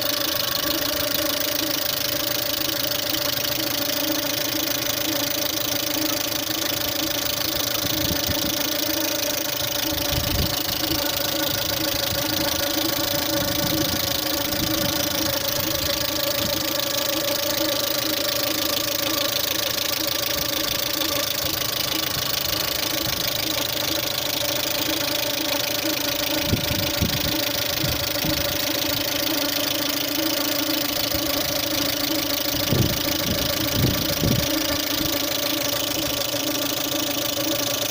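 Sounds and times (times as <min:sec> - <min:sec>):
car engine idling: 0:00.0 - 0:37.9
rapid ticking valve lifter knock: 0:00.0 - 0:37.9.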